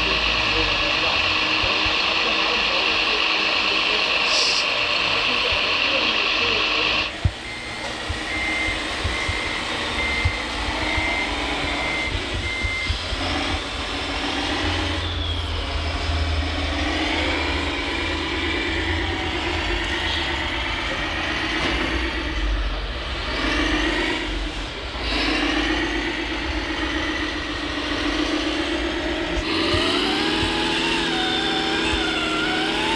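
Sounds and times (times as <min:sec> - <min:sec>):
reversing beeper: 0:00.0 - 0:32.9
whine of electric motors: 0:00.0 - 0:32.9.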